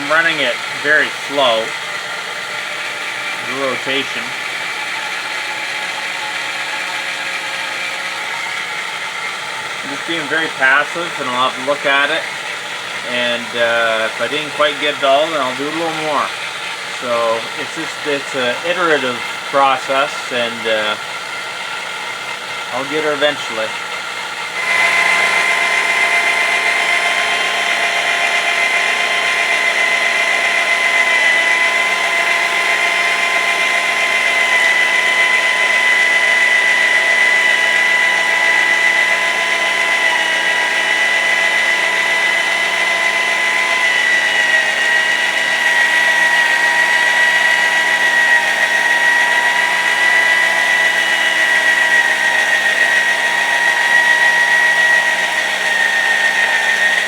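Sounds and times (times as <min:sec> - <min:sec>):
electric drill whining: 0:00.0 - 0:57.0.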